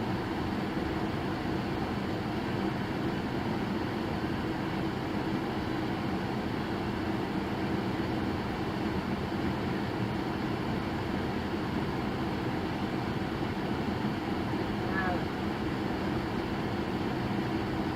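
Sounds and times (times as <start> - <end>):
moving vehicle hum and road noise: 0.0 - 17.9.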